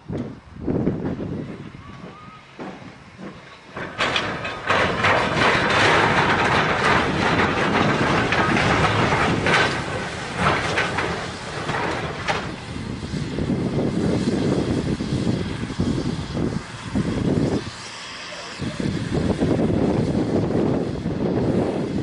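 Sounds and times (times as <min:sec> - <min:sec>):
steam locomotive exhaust beats: 0:00.0 - 0:22.0
train wheels rolling: 0:00.2 - 0:22.0.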